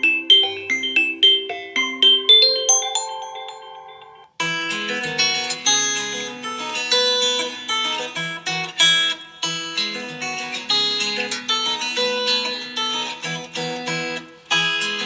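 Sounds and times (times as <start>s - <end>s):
acoustic guitar ringtone melody: 0.0s - 15.0s.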